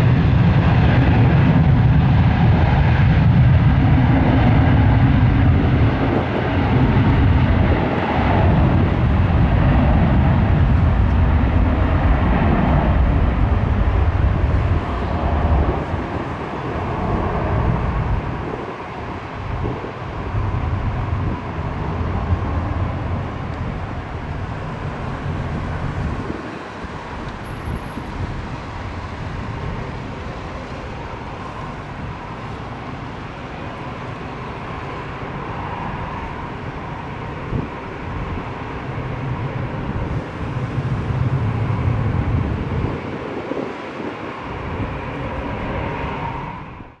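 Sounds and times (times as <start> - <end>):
jet engines roaring at takeoff: 0.0 - 47.0.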